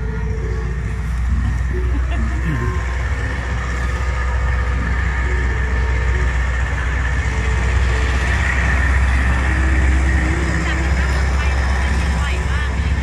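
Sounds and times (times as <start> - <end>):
low engine hum: 0.0 - 13.0
outdoor hubbub: 0.0 - 13.0.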